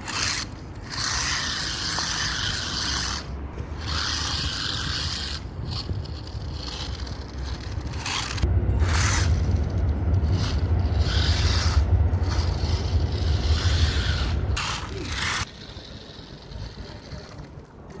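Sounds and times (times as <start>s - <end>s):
toy car motor and gears rumbling: 0.0s - 18.0s.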